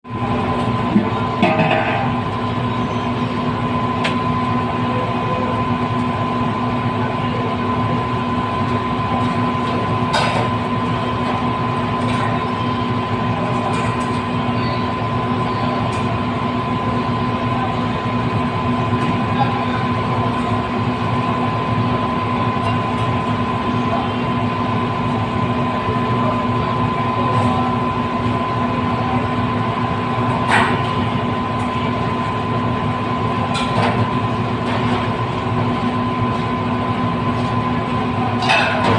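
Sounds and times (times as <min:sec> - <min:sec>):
mechanical rumble and hum: 0:00.0 - 0:38.9.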